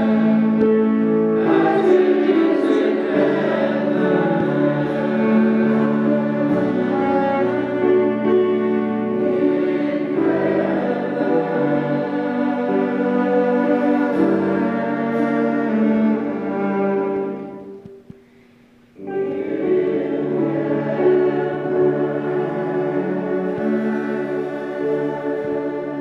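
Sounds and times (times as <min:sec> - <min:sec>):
choir singing: 0:00.0 - 0:17.8, 0:19.0 - 0:26.0
instrumental accompaniment: 0:00.0 - 0:26.0.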